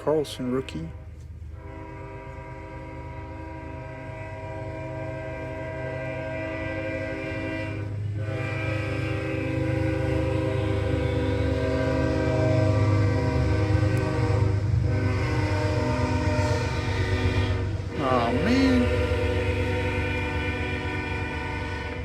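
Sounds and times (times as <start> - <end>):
train horn blast: 0.0 - 22.0
train low rumble: 0.0 - 22.0.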